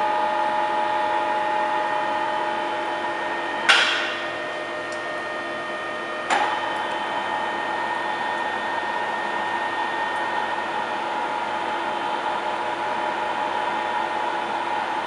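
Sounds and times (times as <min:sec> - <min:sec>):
machine spindle whine: 0:00.0 - 0:15.0
milling machine hum: 0:00.0 - 0:15.0.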